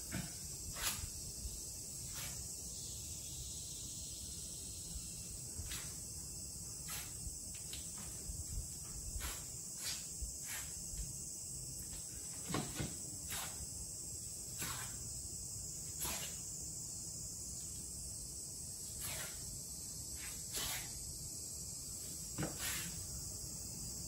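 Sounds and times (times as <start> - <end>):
high-pitched hiss: 0.0 - 24.0.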